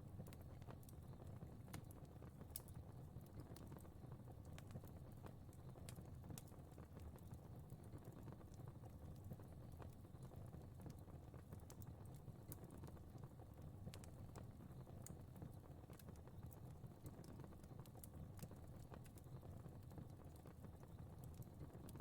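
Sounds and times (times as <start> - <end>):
faint fire crackling: 0.0 - 22.0.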